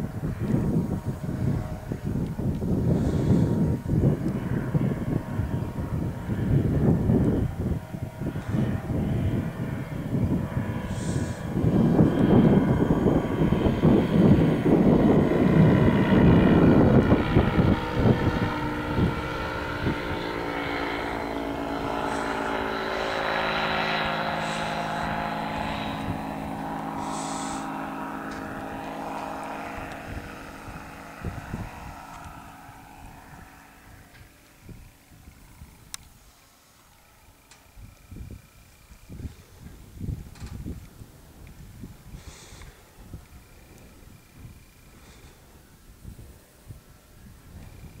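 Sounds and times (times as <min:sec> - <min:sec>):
light aircraft engine droning: 0:00.0 - 0:48.0.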